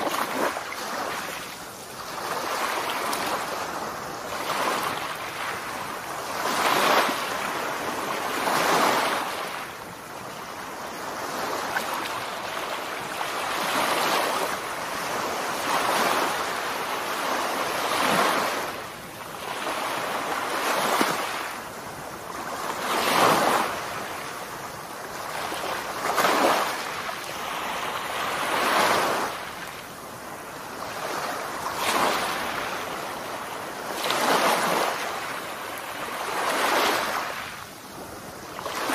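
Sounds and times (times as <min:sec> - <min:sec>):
small waves breaking on sand: 0:00.0 - 0:38.9.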